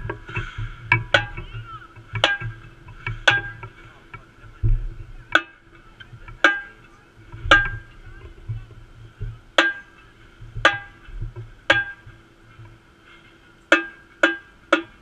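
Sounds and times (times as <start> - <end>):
sharp ticks with ringing tone: 0.0 - 4.3, 5.3 - 12.8, 13.6 - 15.0
low rumble: 0.0 - 14.1.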